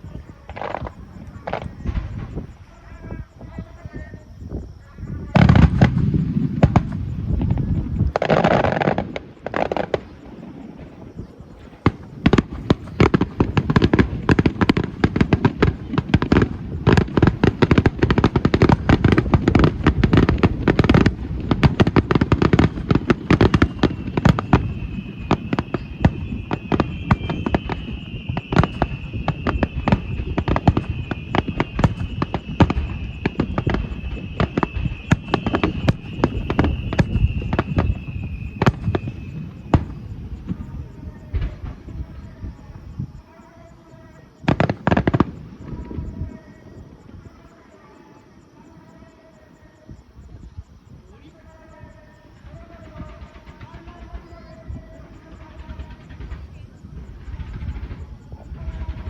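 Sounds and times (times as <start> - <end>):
rapid firework crackling: 0.0 - 3.0, 5.2 - 47.3, 51.1 - 59.0
heavy firework booms: 0.0 - 47.6, 50.0 - 59.0.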